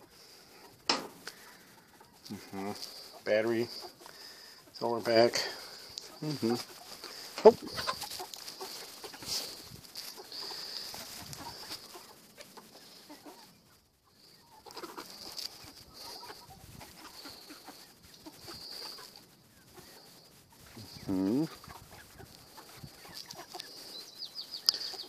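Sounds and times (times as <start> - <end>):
hens clucking softly: 0.0 - 25.0.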